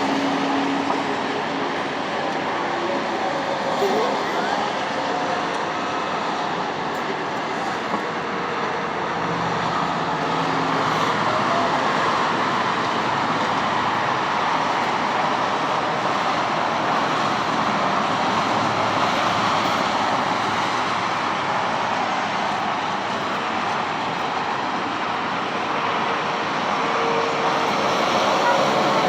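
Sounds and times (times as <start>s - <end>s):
road traffic rushing past: 0.0s - 29.0s.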